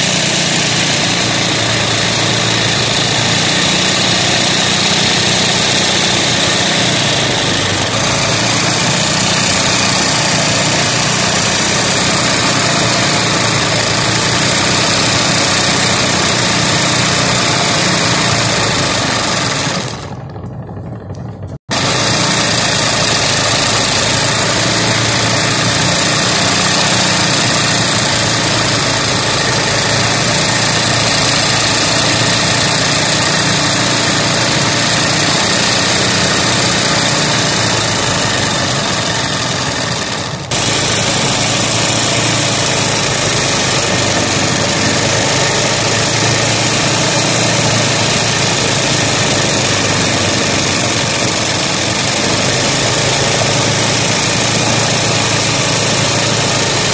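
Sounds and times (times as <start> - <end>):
sewing machine running fast: 0.0 - 56.9.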